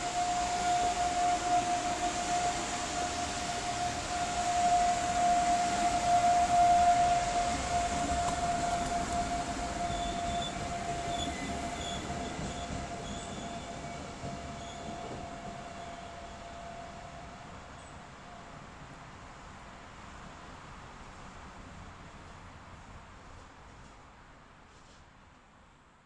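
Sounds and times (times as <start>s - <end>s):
train coaches rolling on rails: 0.0s - 22.1s.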